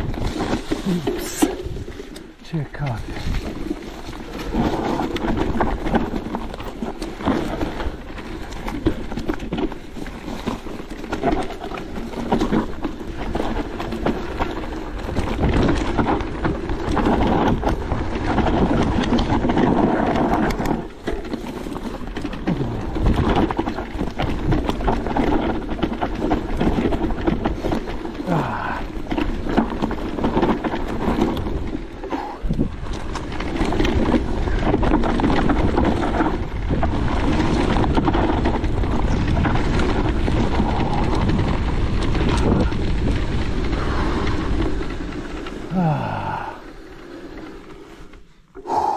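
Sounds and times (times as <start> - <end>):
bike clattering and rattling: 0.0 - 2.4, 3.0 - 48.6
bike tyre noise on rough trail: 0.0 - 48.9.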